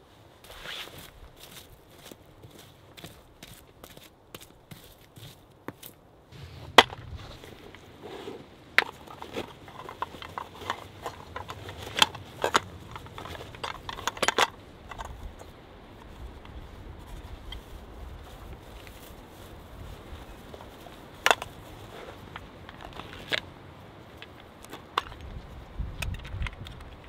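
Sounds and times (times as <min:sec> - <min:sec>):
rustling of leather pouch and grass: 0:00.0 - 0:26.0.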